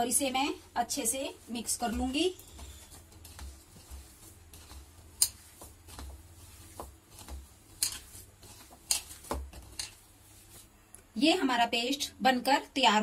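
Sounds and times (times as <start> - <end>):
hand mixing food in a bowl: 0.0 - 12.6.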